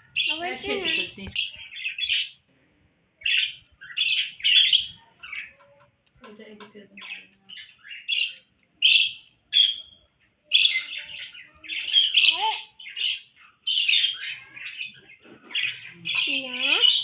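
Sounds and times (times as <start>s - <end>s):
parrots chirping and squawking: 0.0s - 2.5s, 3.2s - 5.9s, 6.8s - 17.0s.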